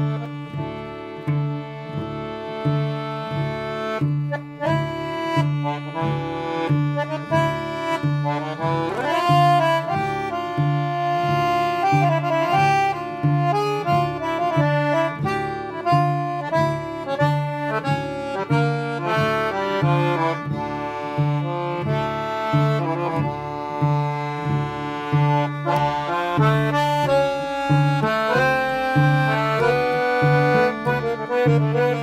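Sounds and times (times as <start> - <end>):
melody of held notes: 0.0 - 32.0.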